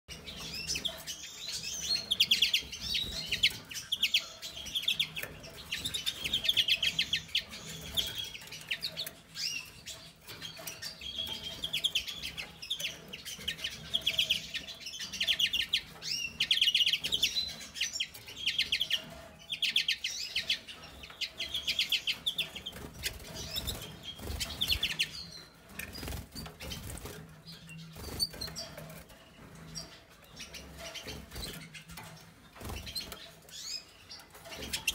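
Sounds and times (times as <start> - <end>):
finches twittering: 0.1 - 34.9.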